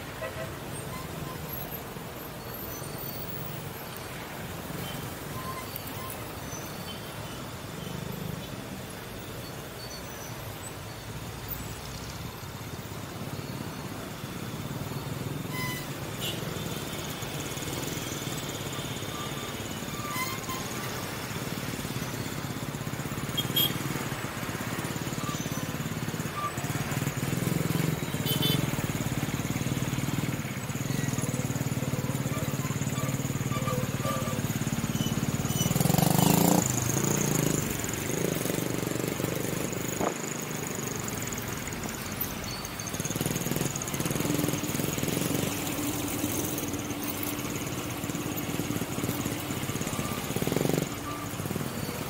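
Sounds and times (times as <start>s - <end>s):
road traffic: 0.0s - 52.0s.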